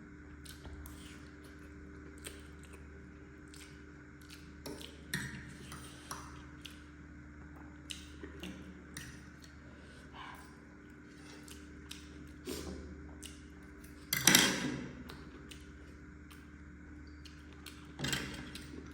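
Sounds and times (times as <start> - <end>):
chewing: 0.3 - 14.1, 15.0 - 18.9.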